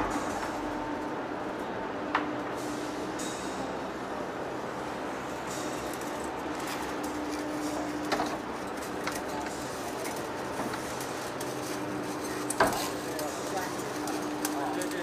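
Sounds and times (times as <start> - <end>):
workshop noise: 0.0 - 15.0.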